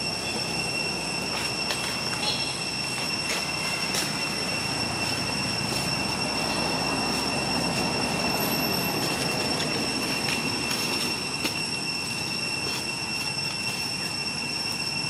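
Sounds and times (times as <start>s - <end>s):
cicadas droning: 0.0s - 15.0s
rushing background hiss: 0.0s - 15.0s.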